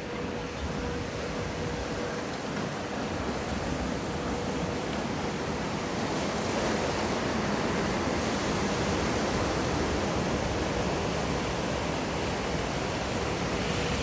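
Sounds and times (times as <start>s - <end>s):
waves breaking: 1.6s - 14.0s.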